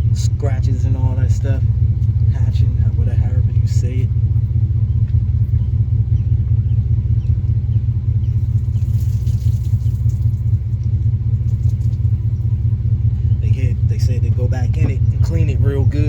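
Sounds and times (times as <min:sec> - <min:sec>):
fluttering low rumble: 0:00.0 - 0:16.0.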